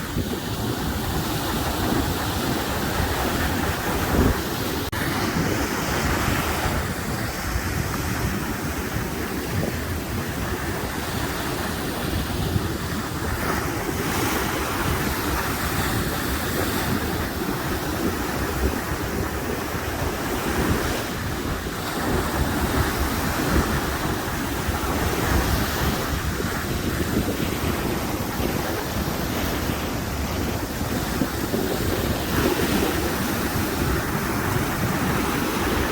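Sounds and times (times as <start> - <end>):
sea waves washing in: 0.0 - 35.9
wind on microphone: 0.0 - 35.9.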